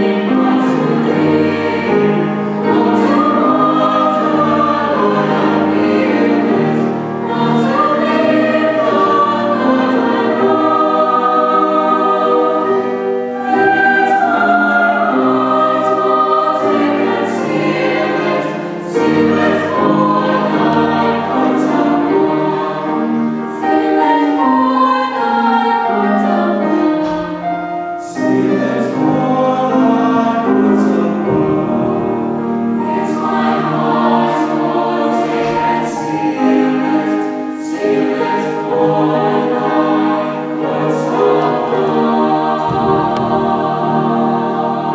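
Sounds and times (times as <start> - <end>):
choir singing: 0.0 - 44.9.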